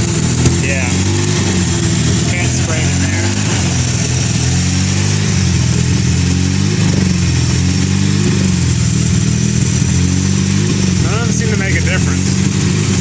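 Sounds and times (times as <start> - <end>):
rotary engine idling: 0.0 - 13.0.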